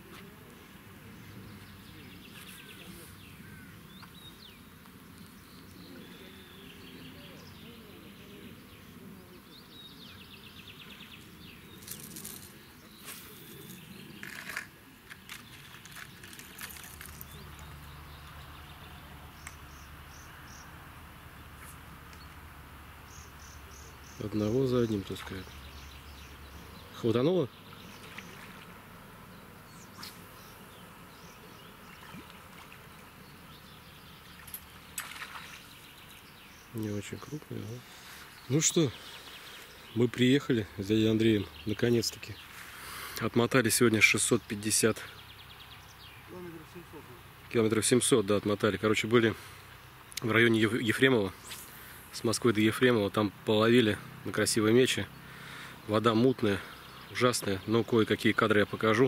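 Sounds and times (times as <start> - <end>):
insects: 0.1 - 59.0.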